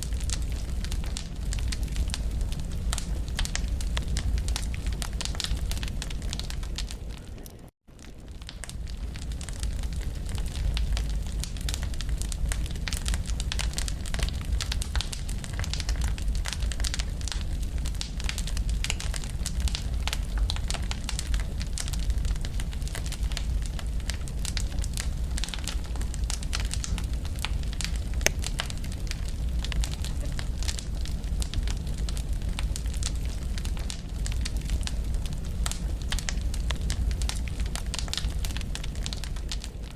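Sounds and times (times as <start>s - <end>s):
burning wood snapping and popping: 0.0s - 39.9s
low fire rumble: 0.0s - 39.9s
wood fire crackling: 0.0s - 39.9s.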